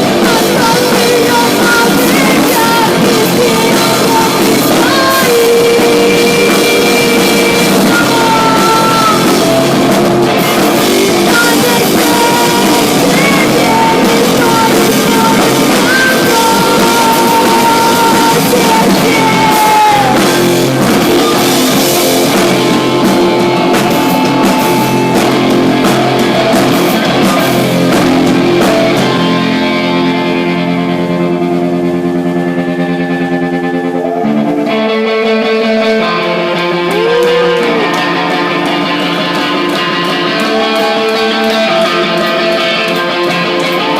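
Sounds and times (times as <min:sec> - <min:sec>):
person singing long notes: 0:00.0 - 0:25.5, 0:32.0 - 0:42.5
live rock band playing: 0:00.0 - 0:43.9.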